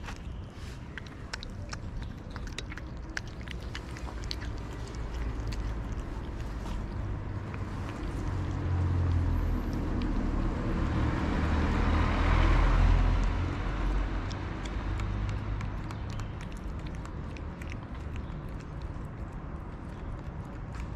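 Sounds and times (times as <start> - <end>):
kittens chewing wet food: 0.0 - 20.9
vehicle passing: 0.6 - 20.9.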